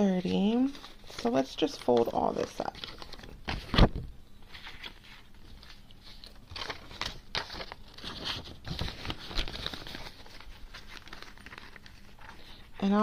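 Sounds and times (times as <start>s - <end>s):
paper banknotes rustling: 0.0s - 3.8s, 4.5s - 13.0s.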